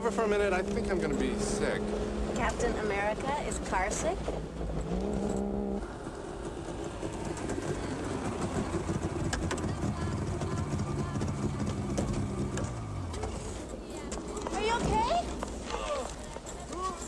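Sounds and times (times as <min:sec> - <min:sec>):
car engine running: 0:00.0 - 0:13.7.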